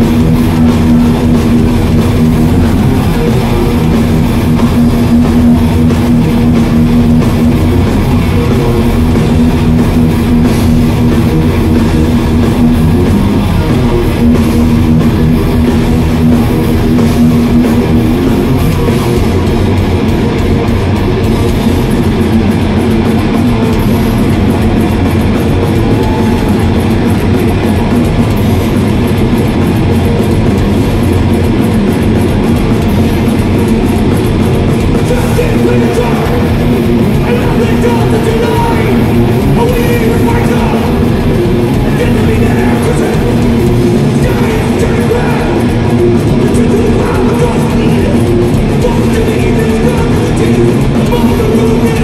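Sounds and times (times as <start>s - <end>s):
long held guitar tone: 0.0s - 52.0s
thrash metal band playing live: 0.0s - 52.0s.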